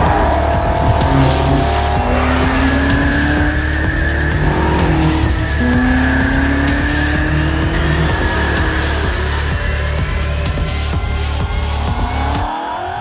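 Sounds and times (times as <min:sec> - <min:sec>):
car engine accelerating hard: 0:00.0 - 0:12.5
background music: 0:00.0 - 0:13.0.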